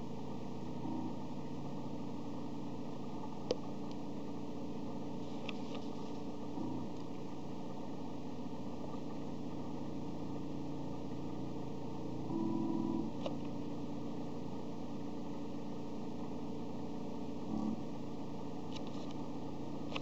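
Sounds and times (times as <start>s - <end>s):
stepper motors humming: 0.0s - 20.0s.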